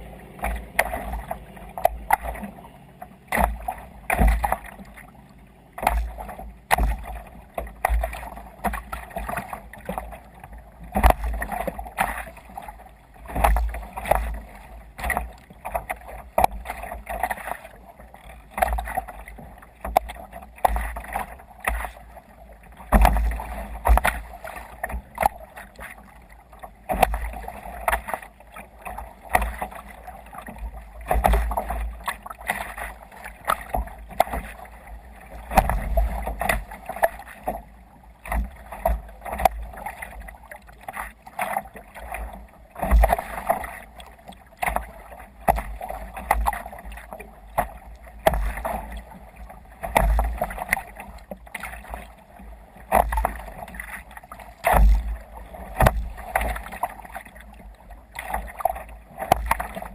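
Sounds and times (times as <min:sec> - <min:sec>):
water splashing against kayak hull: 0:00.0 - 0:59.9.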